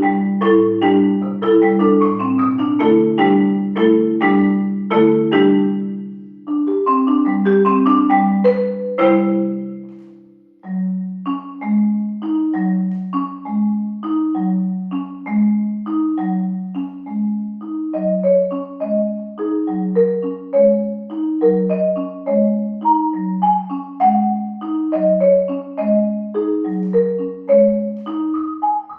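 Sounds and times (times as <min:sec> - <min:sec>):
tuned mallet percussion music: 0:00.0 - 0:28.9.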